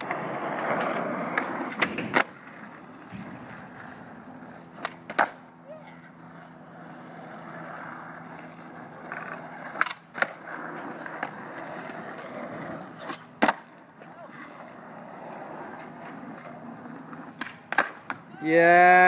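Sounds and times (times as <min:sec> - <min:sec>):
skateboard clacking on ground: 0:00.0 - 0:14.9, 0:15.6 - 0:18.3
skateboard wheels on rough concrete: 0:00.0 - 0:19.0.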